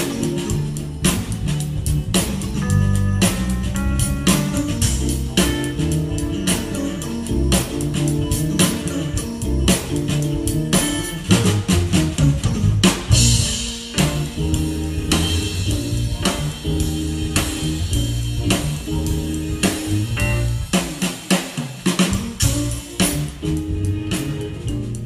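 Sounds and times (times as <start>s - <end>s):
walking bass line: 0.0s - 21.1s, 22.2s - 25.0s
drum kit: 0.0s - 25.0s
keyboards: 0.0s - 25.0s.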